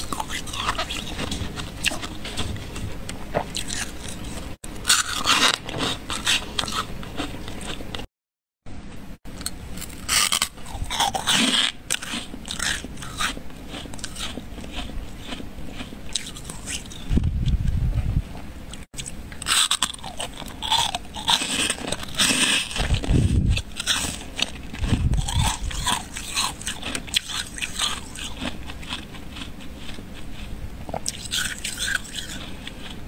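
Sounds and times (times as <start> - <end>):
freezer frost crunching: 0.0 - 8.0, 9.4 - 17.6, 19.0 - 33.0.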